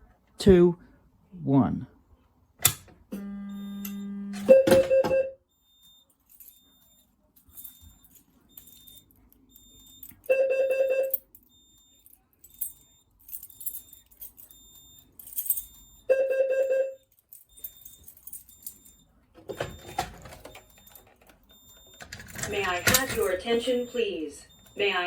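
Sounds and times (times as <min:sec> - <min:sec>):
low alarm tone: 0:03.2 - 0:25.0.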